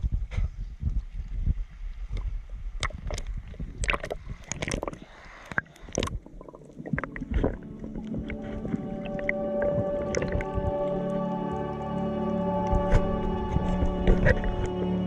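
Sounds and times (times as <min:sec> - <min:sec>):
low rumble of moving water: 0:00.0 - 0:15.0
underwater crackles and clicks: 0:00.0 - 0:15.0
water sloshing and gurgling: 0:00.0 - 0:15.0.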